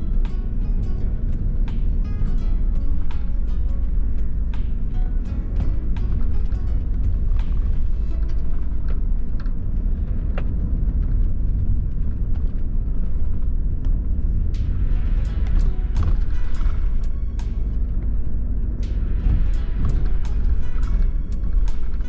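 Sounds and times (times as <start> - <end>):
coach engine and road rumble: 0.0 - 22.0.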